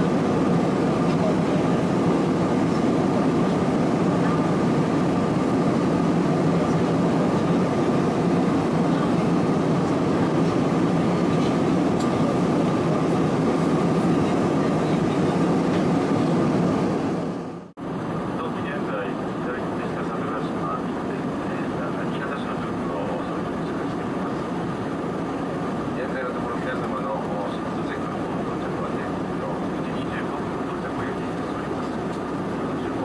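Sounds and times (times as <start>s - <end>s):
jet engines humming: 0.0s - 33.0s.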